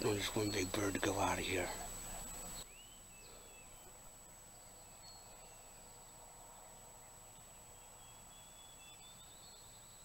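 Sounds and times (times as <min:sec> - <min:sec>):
faint bird chirps and whistles: 0:00.0 - 0:06.7, 0:07.7 - 0:10.0.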